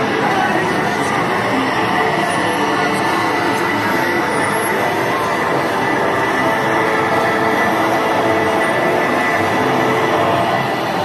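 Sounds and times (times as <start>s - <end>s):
rail vehicle rumbling: 0.0s - 11.0s.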